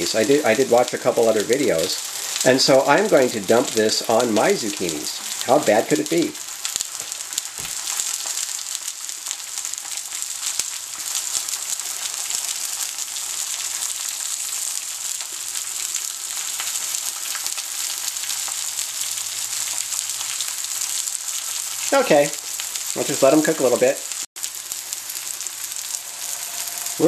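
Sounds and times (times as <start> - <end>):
zucchini sizzling in hot oil: 0.0 - 27.0.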